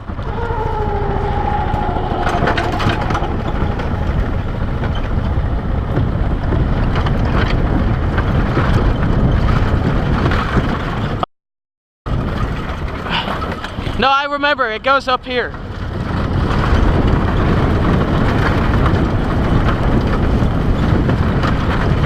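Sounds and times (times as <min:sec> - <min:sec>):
vehicle engine climbing a hill: 0:00.0 - 0:11.2, 0:12.1 - 0:14.0, 0:15.5 - 0:22.0.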